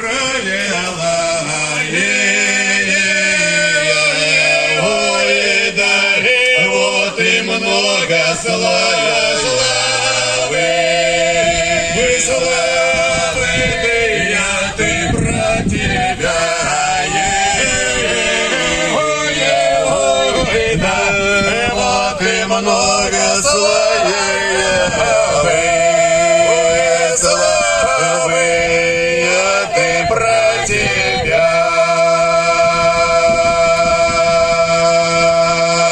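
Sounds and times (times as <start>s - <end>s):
male choir singing: 0.0s - 35.9s.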